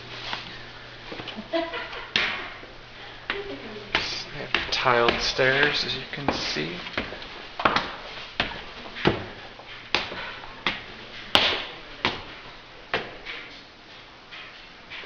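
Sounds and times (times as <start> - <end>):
footsteps on tiled stairs: 2.3 - 15.0.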